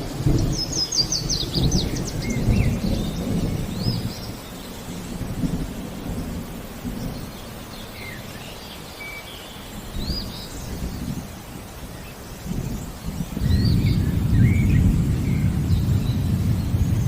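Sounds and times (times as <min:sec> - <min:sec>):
low rumbling thunder: 0:00.0 - 0:08.3, 0:09.9 - 0:17.0
rain: 0:00.0 - 0:17.0
birds chirping and whistling: 0:00.2 - 0:06.2, 0:06.8 - 0:17.0.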